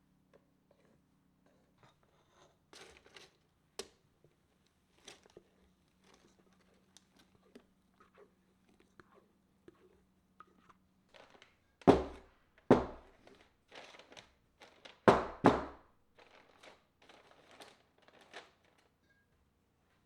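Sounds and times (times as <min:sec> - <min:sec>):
rustling and crinkling: 0:00.7 - 0:19.2.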